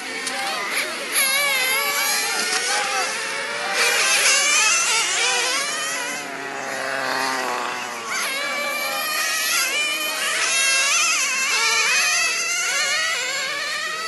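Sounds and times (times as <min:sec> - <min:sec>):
model car engines whining: 0:00.0 - 0:14.0.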